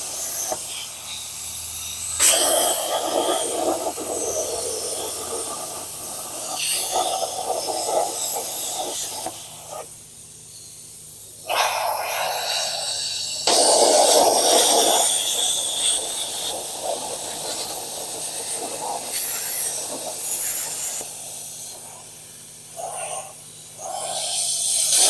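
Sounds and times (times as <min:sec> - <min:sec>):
plasma cutter hissing: 0:00.0 - 0:25.0.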